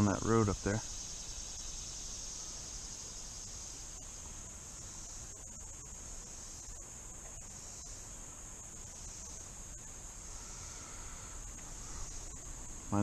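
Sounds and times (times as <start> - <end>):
faint outdoor hiss: 0.0 - 13.0
insect chorus drone: 0.0 - 13.0.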